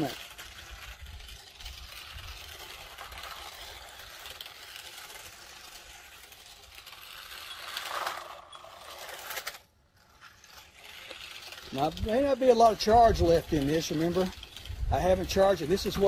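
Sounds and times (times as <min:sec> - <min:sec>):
toy car motor whirring: 0:00.0 - 0:16.0
tyres grinding on asphalt: 0:00.0 - 0:16.0.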